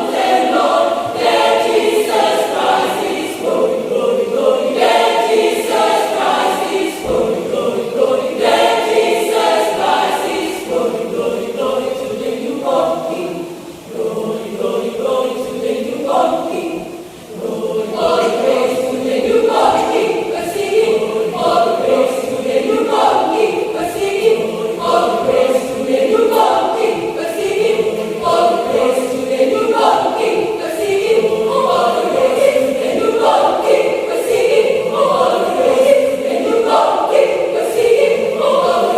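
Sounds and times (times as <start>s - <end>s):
mixed choir singing: 0.0s - 38.9s.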